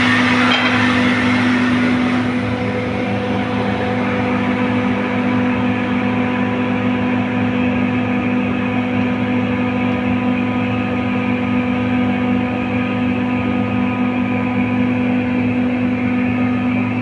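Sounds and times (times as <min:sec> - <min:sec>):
compressor motor humming: 0:00.0 - 0:17.0.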